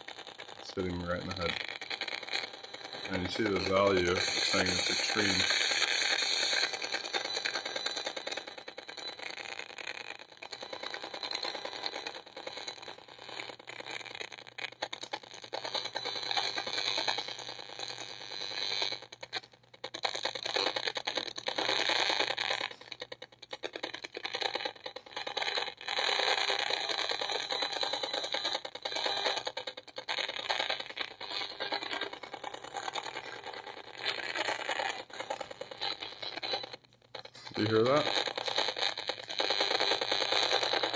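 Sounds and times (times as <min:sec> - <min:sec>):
crackling static of fast clicks: 0:00.0 - 0:40.9.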